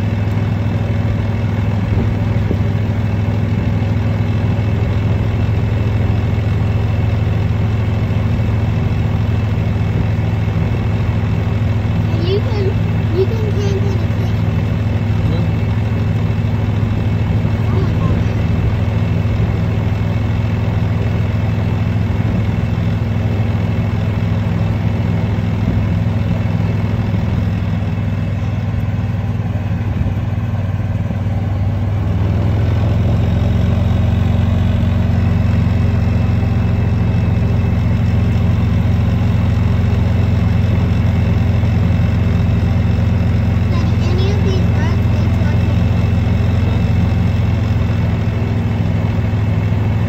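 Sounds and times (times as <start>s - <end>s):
golf cart engine humming: 0.0s - 50.0s.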